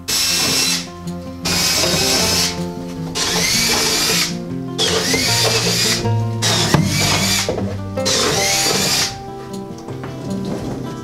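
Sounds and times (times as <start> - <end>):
power drill whining: 0.0 - 9.3
background music: 0.0 - 11.0.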